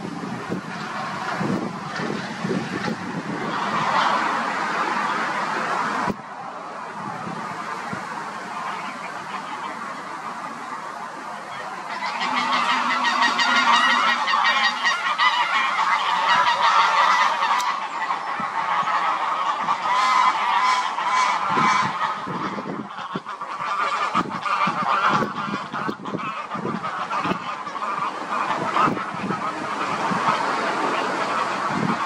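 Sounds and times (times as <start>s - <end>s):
geese honking: 0.0s - 32.0s.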